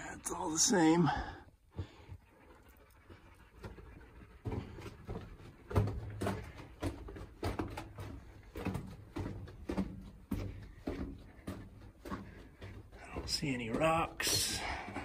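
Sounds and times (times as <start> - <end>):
footsteps on dirt and rock: 0.0 - 15.0.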